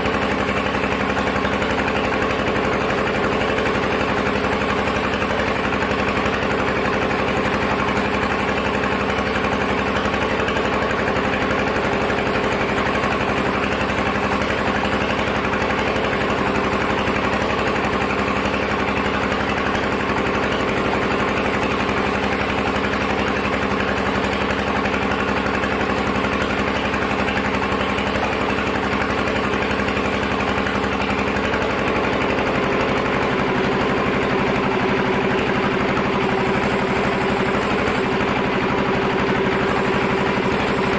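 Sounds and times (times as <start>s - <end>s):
sawmill machinery motor hum: 0.0s - 40.9s.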